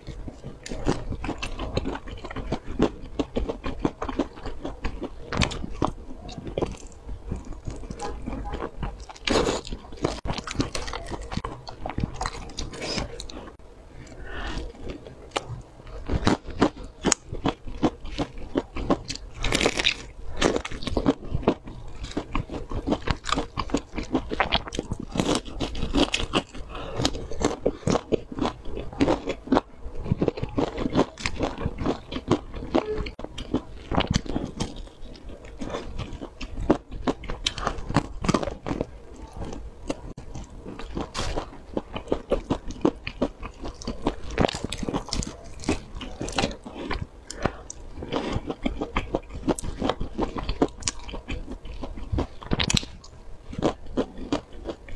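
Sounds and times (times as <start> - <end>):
crunchy chewing: 0.0 - 54.9.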